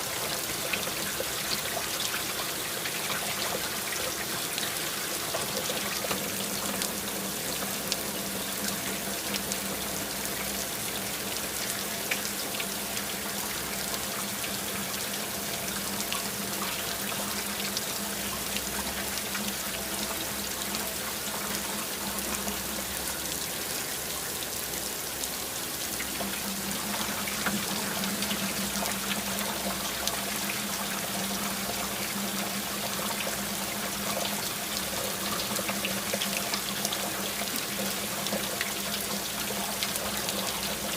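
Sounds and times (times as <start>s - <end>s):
water pouring and trickling: 0.0s - 40.9s.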